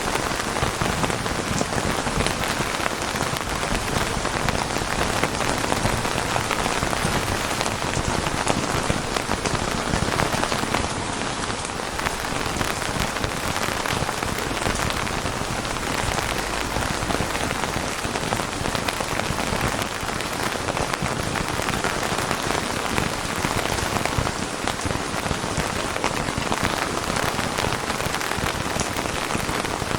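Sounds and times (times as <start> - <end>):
heavy rain falling: 0.0 - 29.9.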